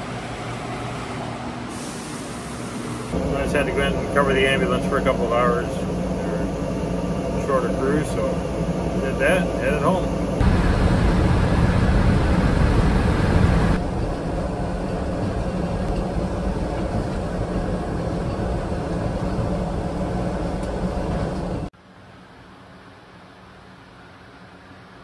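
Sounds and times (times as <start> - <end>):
vehicle road and engine noise: 0.0 - 25.0.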